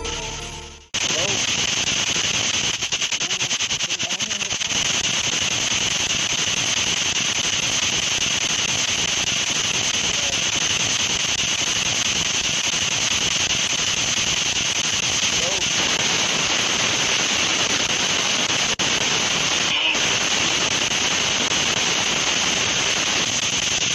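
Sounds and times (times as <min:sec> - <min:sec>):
radio static hiss: 0:00.9 - 0:23.9.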